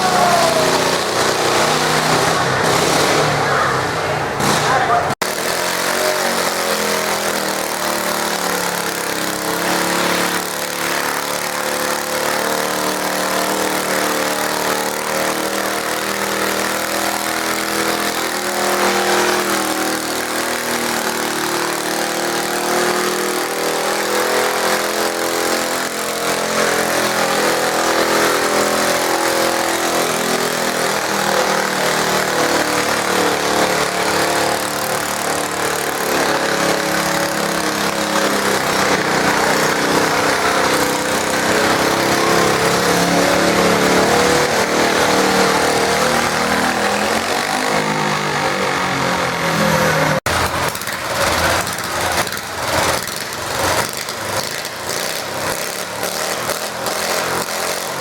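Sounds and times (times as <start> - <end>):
garden tractor engine running: 4.4 - 58.0.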